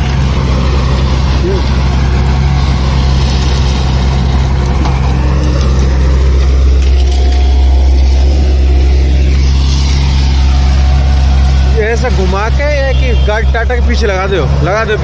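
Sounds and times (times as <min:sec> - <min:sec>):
excavator diesel engine drone: 0:00.0 - 0:15.0.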